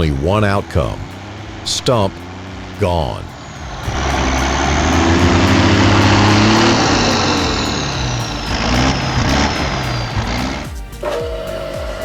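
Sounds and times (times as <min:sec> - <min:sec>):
truck engine revving: 0:00.0 - 0:11.8.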